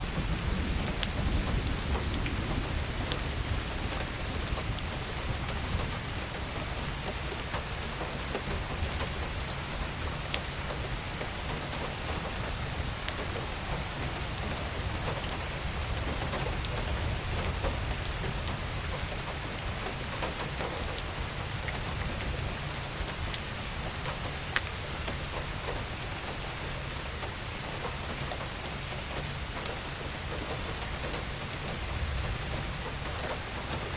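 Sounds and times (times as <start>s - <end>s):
rain falling: 0.0s - 33.9s
raindrops ticking: 0.0s - 33.9s.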